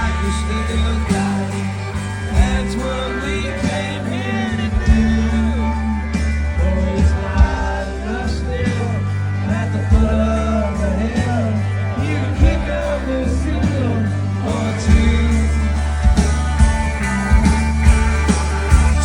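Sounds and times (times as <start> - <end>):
country band playing live: 0.0 - 19.0.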